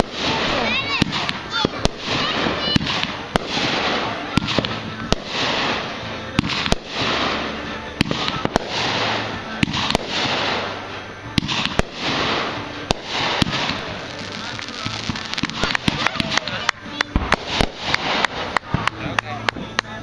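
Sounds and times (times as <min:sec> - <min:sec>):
crackling hiss of fireworks: 0:00.0 - 0:20.0
fireworks bangs and pops: 0:00.0 - 0:20.0.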